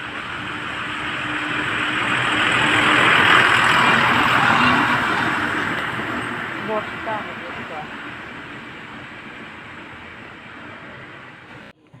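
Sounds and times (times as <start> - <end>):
vehicle driving past: 0.0 - 11.7.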